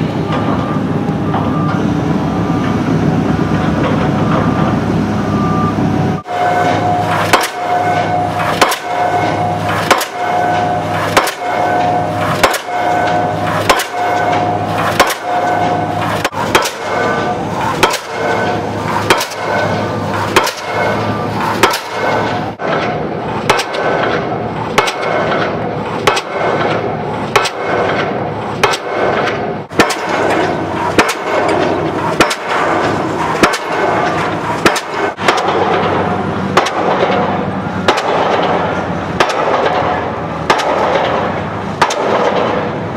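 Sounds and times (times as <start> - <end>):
pile-driving hammer bangs: 0.0 - 42.9.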